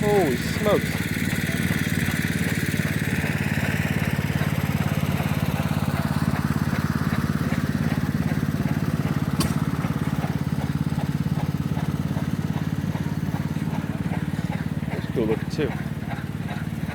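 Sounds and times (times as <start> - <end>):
chainsaw engine running: 0.0 - 16.9.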